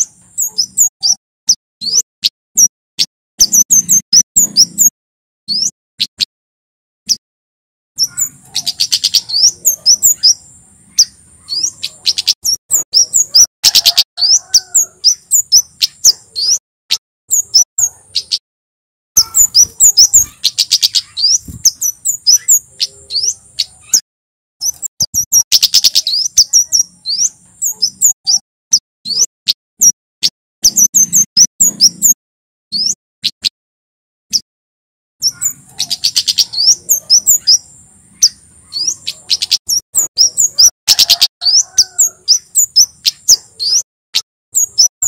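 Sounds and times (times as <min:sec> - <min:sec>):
bird singing high chirps: 0:00.0 - 0:06.3, 0:08.0 - 0:16.6, 0:17.3 - 0:18.4, 0:19.2 - 0:24.0, 0:24.6 - 0:30.0, 0:30.6 - 0:33.5, 0:35.2 - 0:45.0.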